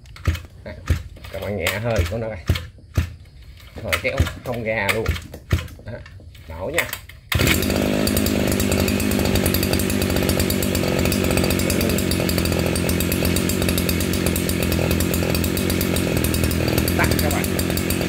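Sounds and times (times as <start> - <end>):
brushcutter engine running: 3.5 - 18.0.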